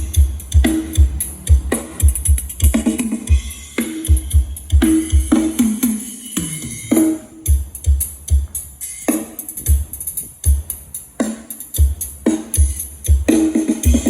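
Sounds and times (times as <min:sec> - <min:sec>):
music with kick drum and tambourine: 0:00.0 - 0:14.0.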